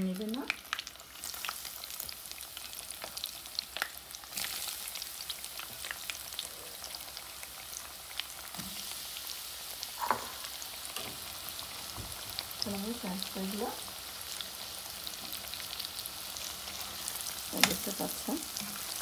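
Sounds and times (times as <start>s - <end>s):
hot oil sizzling and crackling: 0.0s - 19.0s.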